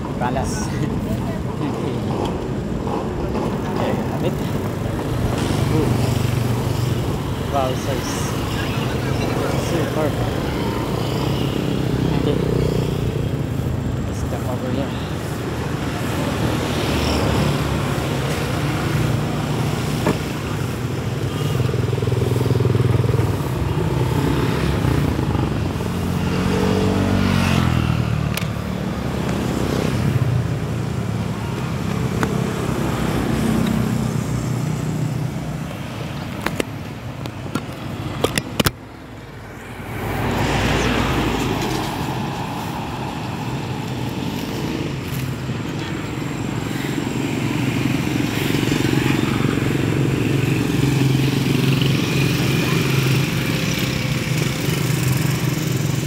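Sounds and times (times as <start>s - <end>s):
motorcycles passing: 0.0s - 56.0s.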